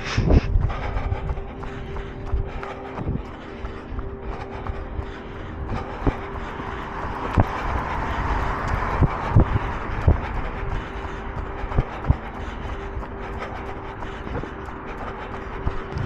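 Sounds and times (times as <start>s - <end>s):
vehicle road noise passing: 3.0s - 16.0s.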